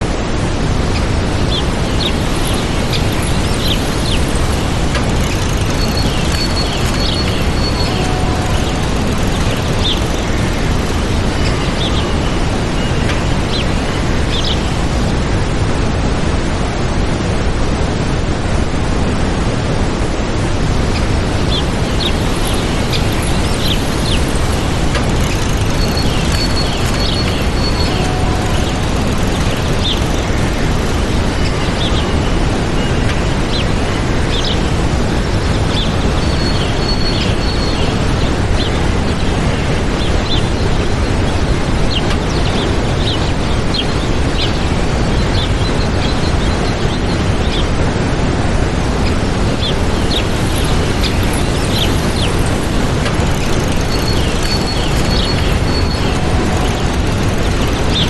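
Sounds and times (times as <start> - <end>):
waterfall rushing: 0.0 - 58.0
small birds chirping: 1.0 - 15.2, 20.9 - 48.0, 48.7 - 58.0.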